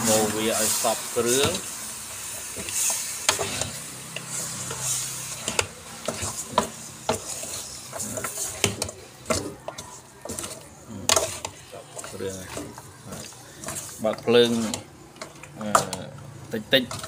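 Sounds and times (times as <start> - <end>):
meat sizzling: 0.0 - 17.0
metal ladle scraping a pot: 2.6 - 16.0, 16.8 - 17.0.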